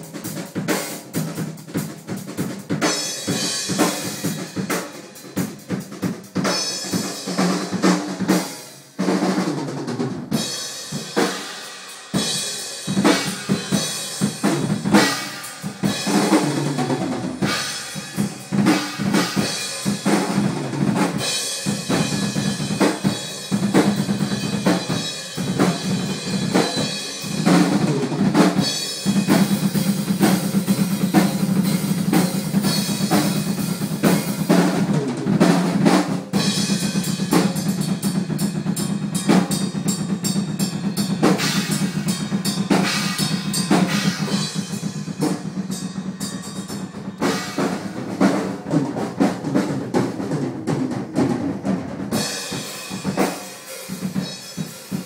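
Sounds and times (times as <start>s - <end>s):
rock drumming on drum kit: 0.0s - 55.0s.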